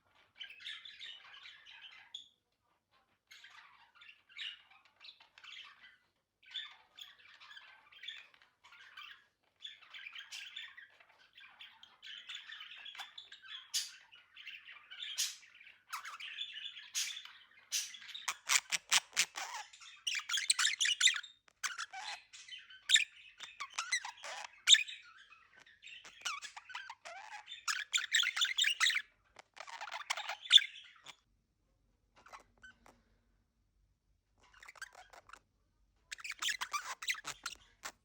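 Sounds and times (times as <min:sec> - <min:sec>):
budgerigars chattering and chirping: 0:00.1 - 0:02.4, 0:03.0 - 0:31.2, 0:34.4 - 0:35.4, 0:36.1 - 0:38.0.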